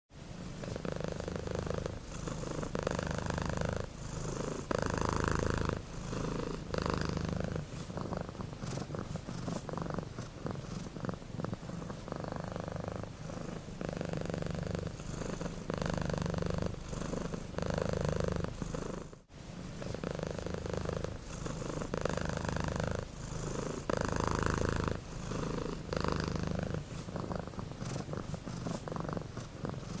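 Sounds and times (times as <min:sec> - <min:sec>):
cat purring: 0:00.3 - 0:30.0.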